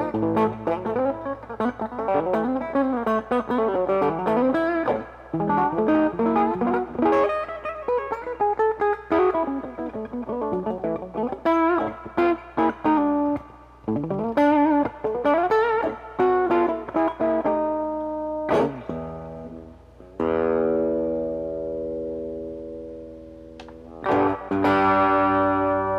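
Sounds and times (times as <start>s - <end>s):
electric guitar chord ringing: 0.0s - 25.9s
electric guitar lead phrase: 0.0s - 25.9s.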